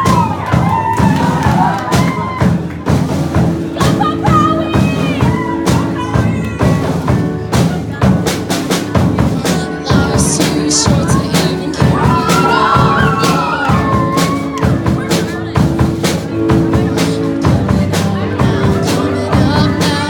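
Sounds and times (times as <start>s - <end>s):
steady drum beat: 0.0s - 20.0s.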